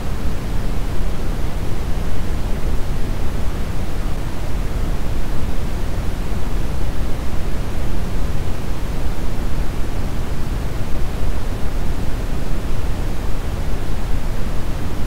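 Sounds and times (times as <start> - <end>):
brown noise hiss: 0.0 - 15.0.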